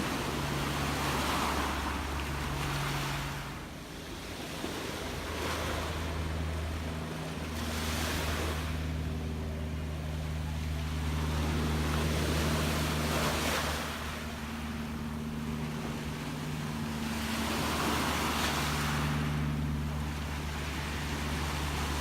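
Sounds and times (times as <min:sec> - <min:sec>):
low engine hum: 0:00.0 - 0:22.0
sea waves washing in: 0:00.0 - 0:22.0.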